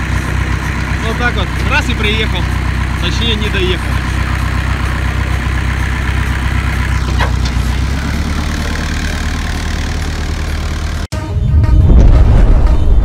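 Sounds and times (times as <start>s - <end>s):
truck engine idling: 0.0s - 11.2s.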